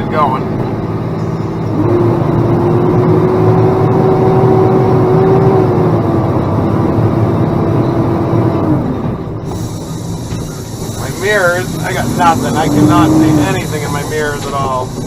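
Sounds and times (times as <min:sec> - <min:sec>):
steady whine: 0:00.0 - 0:15.0
truck engine running under load: 0:00.0 - 0:15.0.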